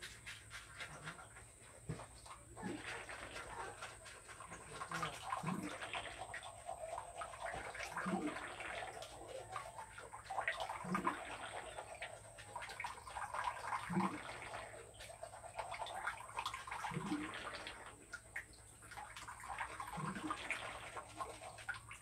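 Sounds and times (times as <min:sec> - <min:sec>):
toothbrush scrubbing teeth: 0:00.0 - 0:17.3, 0:19.0 - 0:22.0.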